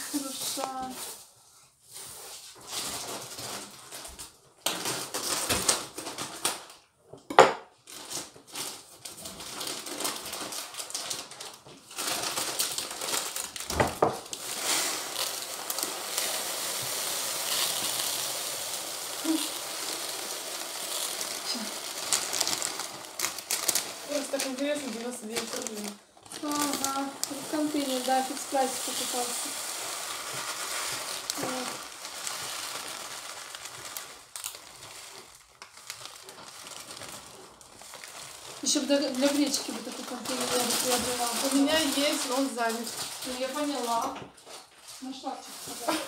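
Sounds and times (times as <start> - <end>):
rice pouring into container: 0.0 - 1.3, 1.9 - 6.1, 11.9 - 44.2
plastic bag rustling: 0.0 - 7.0, 7.7 - 46.0.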